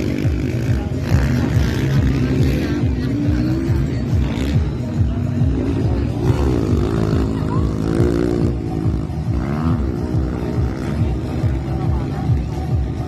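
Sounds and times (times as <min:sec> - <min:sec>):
dirt bike engine revving: 0:00.0 - 0:12.1.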